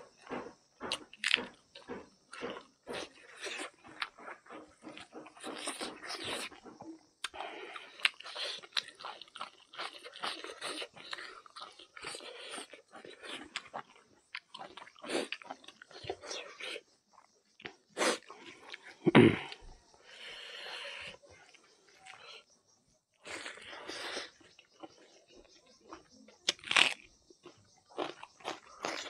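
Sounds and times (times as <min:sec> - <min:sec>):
chewing and mouth smacking: 0:00.2 - 0:19.6, 0:23.2 - 0:29.0.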